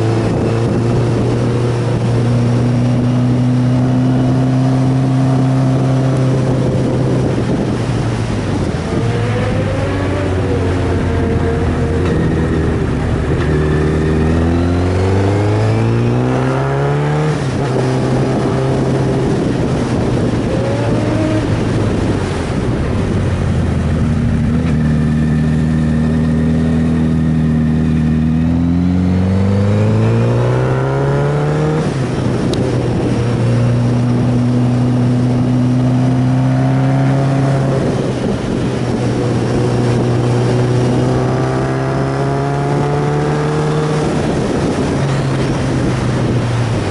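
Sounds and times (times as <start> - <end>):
motorcycle engine revving: 0.0 - 46.9
wind and road noise: 0.0 - 46.9.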